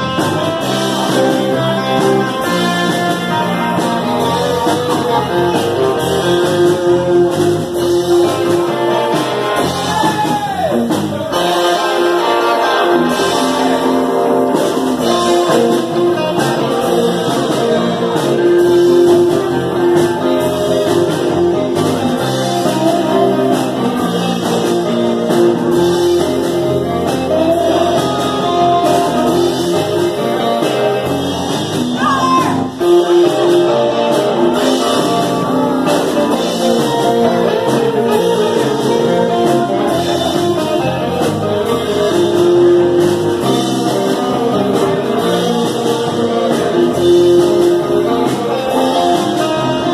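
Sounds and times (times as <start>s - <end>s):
person singing: 0.0s - 31.2s, 32.0s - 49.9s
drums: 0.0s - 49.9s
electric guitars: 0.0s - 49.9s.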